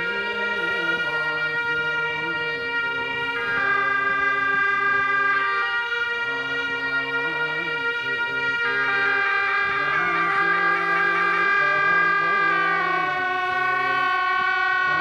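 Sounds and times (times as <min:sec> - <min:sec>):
deep chanting voices: 0:00.0 - 0:15.0
double-reed horns playing long notes: 0:00.0 - 0:15.0.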